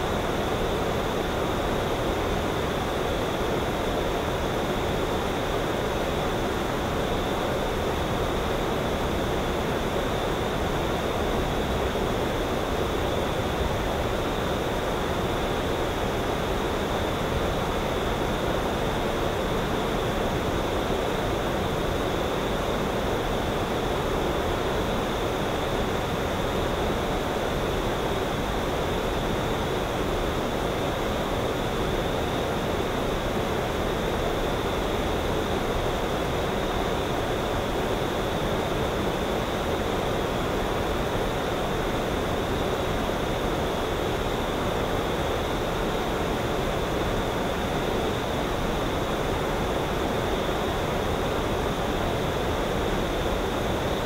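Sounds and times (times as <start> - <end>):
outdoor ambient rush: 0.0 - 54.0.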